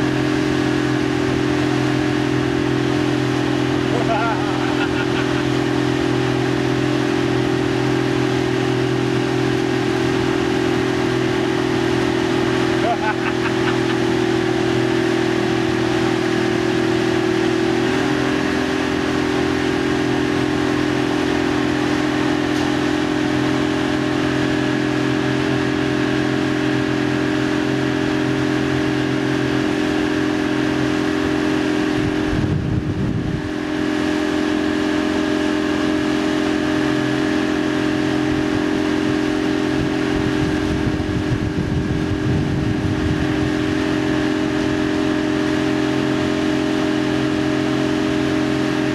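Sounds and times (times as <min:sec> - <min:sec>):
motorboat engine running: 0:00.0 - 0:48.9.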